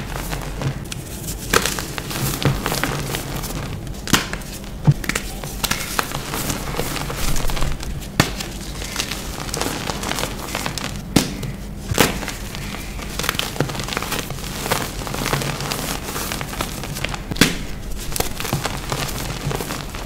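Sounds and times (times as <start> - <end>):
chalk crunching and crackling: 0.0 - 20.0
chalk slabs snapping: 0.0 - 20.0.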